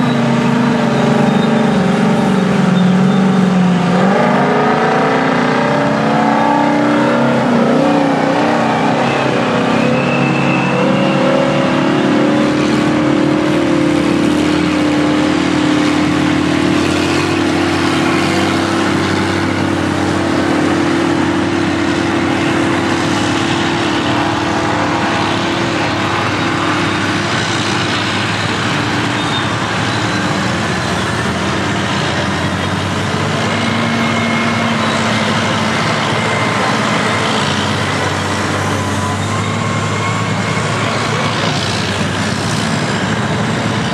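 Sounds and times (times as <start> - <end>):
diesel engines of heavy machines: 0.0 - 43.9
truck engine revving up: 0.0 - 43.9.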